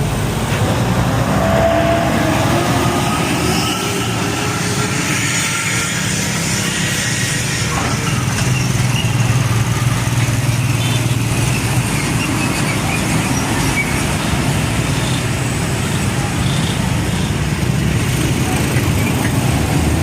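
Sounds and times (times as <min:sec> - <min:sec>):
diesel truck engine rumble: 0:00.0 - 0:20.0
traffic noise: 0:00.0 - 0:20.0.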